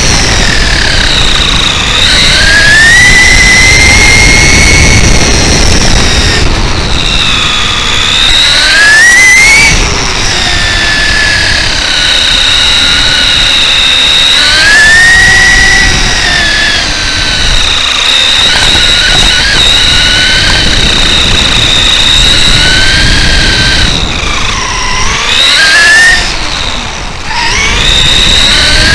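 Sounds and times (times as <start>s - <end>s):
electric motor whining: 0.0s - 28.9s.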